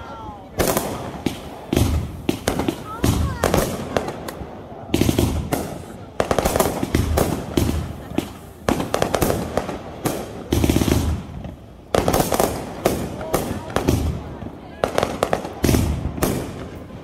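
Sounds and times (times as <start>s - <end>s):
fireworks bangs and pops: 0.0s - 17.0s
fireworks crackling: 0.0s - 17.0s.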